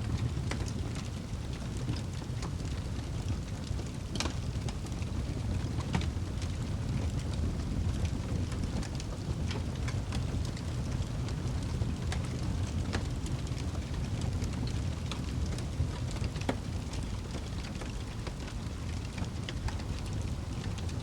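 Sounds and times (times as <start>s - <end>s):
fire crackling in a fireplace: 0.0s - 21.0s.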